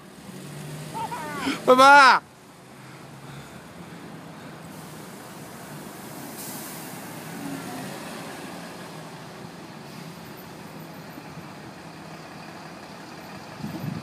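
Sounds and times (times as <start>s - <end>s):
bus engine running: 0.0s - 14.0s
car pulling away: 0.0s - 14.0s.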